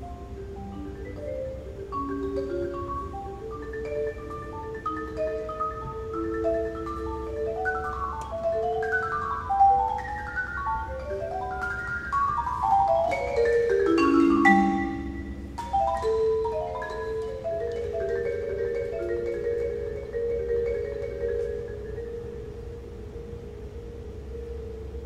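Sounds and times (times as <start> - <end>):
marimba played with mallets: 0.0 - 25.0.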